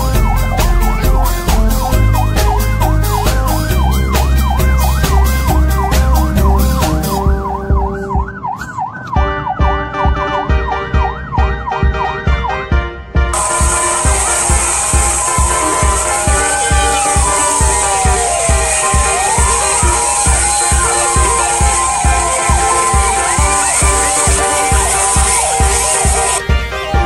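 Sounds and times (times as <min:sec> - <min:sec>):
music with steady beat: 0:00.0 - 0:27.0
yelp siren: 0:00.2 - 0:10.2, 0:13.4 - 0:26.4.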